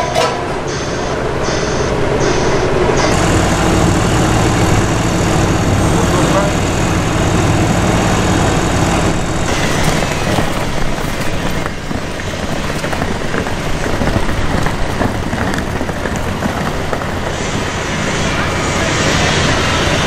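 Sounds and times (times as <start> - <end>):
vehicle and street noise: 0.0 - 20.0
engine idling: 0.7 - 20.0.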